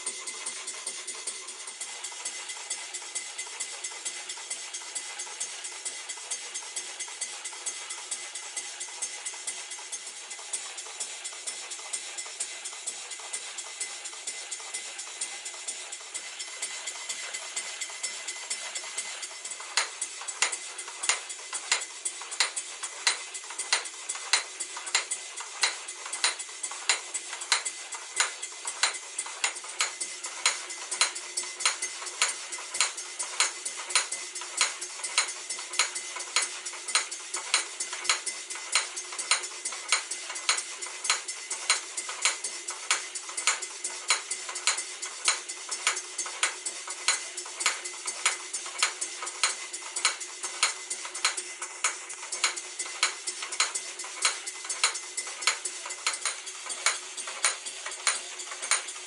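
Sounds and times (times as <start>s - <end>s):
model steam engine hissing: 0.0s - 59.0s
rhythmic light metallic clicks: 0.0s - 59.0s.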